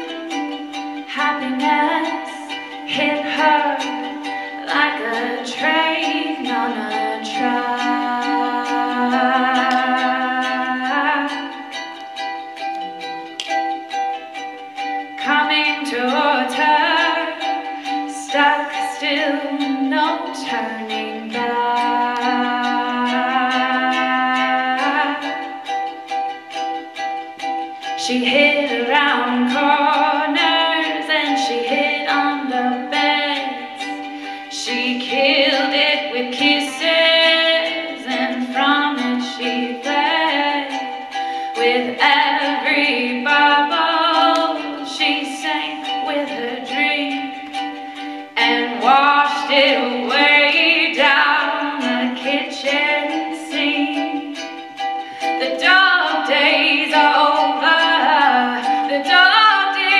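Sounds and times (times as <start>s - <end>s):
woman singing: 0.0s - 12.4s, 14.8s - 26.3s, 27.5s - 59.9s
strummed ukulele: 0.0s - 59.9s.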